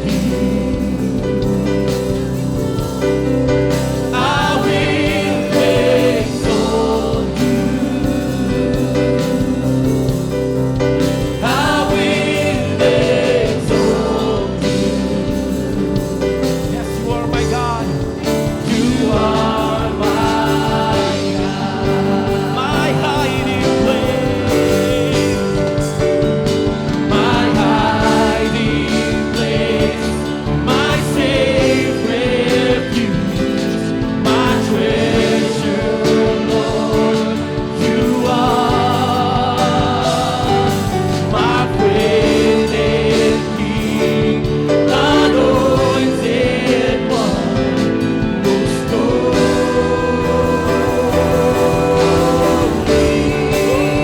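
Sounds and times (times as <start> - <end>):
group of voices singing: 0.0 - 54.0
worship band playing: 0.0 - 54.0.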